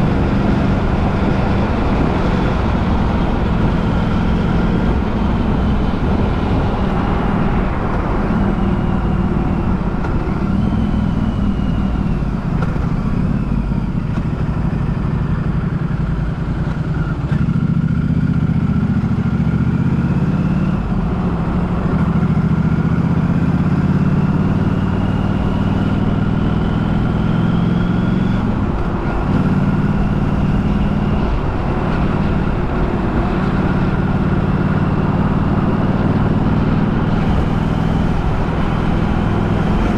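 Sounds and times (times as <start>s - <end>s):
rising whines: 0.0s - 15.6s, 20.0s - 39.9s
vehicle rumble: 0.0s - 39.9s.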